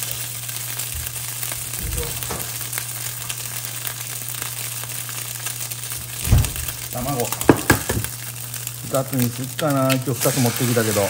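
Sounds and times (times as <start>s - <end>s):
meat sizzling in a frying pan: 0.0s - 11.0s
low steady hum: 0.1s - 10.2s.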